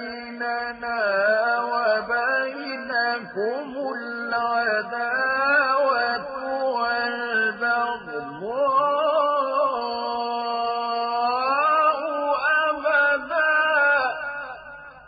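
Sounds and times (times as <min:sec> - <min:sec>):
echo of voice: 0:00.0 - 0:15.0
man chanting melodically: 0:00.0 - 0:15.0.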